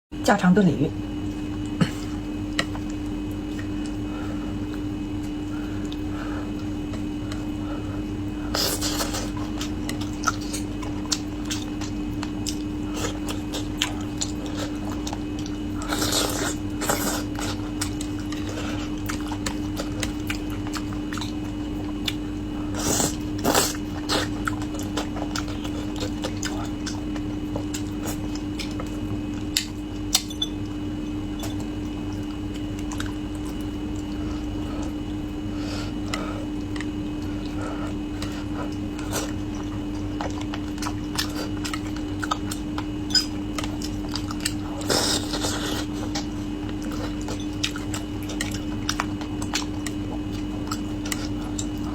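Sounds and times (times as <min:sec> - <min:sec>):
steady low hum: 0:00.1 - 0:51.9
chewing and biting food: 0:02.4 - 0:51.9.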